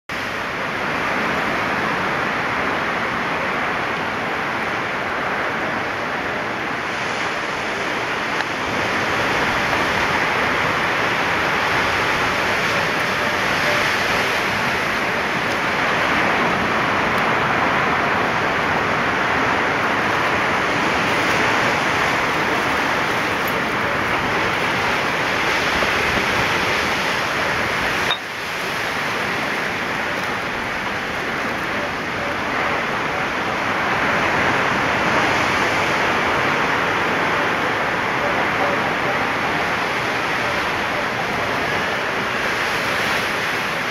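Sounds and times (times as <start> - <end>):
ocean surf against rocks: 0.1 - 43.9.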